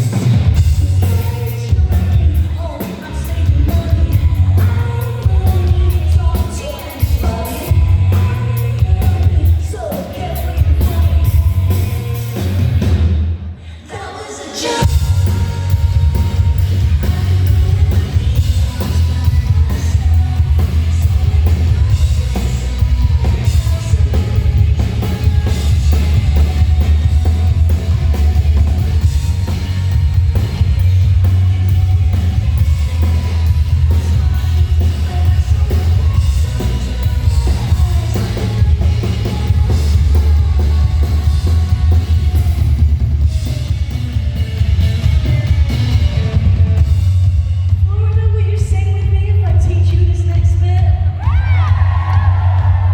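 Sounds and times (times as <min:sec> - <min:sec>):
drum kit: 0:00.0 - 0:13.5, 0:14.6 - 0:52.9
live rock band playing: 0:00.0 - 0:13.5, 0:14.6 - 0:51.0.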